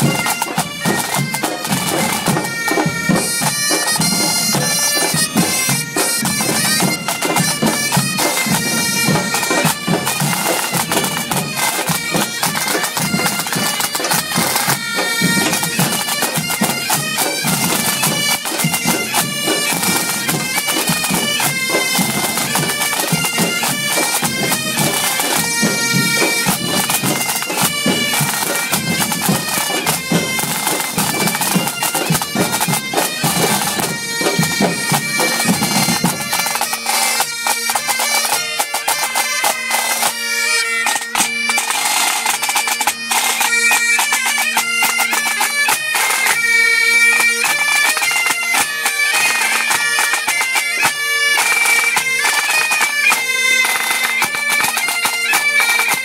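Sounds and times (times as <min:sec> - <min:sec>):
bagpipes with drone: 0:00.0 - 0:56.0.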